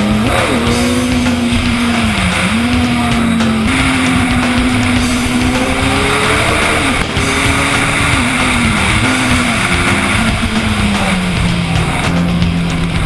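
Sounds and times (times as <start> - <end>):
motorcycle engine revs falling: 0.0 - 13.0.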